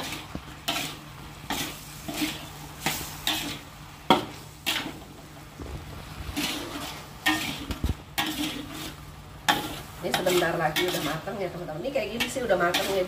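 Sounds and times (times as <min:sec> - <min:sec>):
metal spatula scraping a wok: 0:00.0 - 0:05.4, 0:06.2 - 0:13.0
light sizzle of frying: 0:00.0 - 0:13.0.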